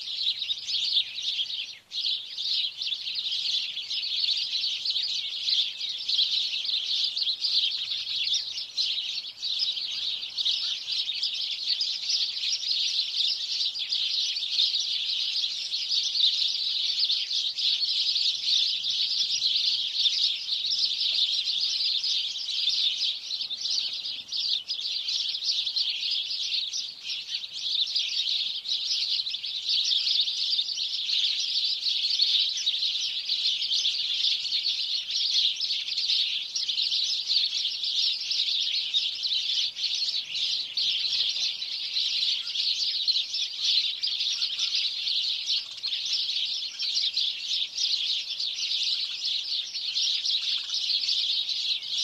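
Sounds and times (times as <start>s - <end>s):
many small birds chirping: 0.0s - 52.0s.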